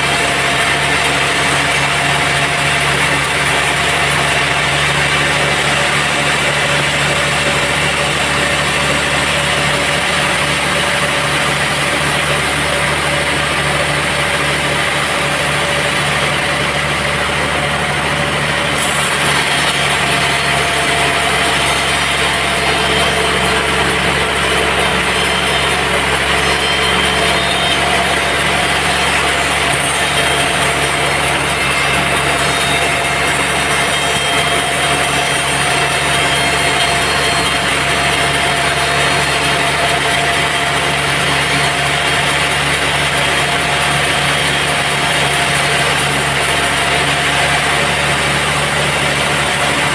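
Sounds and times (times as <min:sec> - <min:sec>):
sawmill machinery drone: 0:00.0 - 0:49.9.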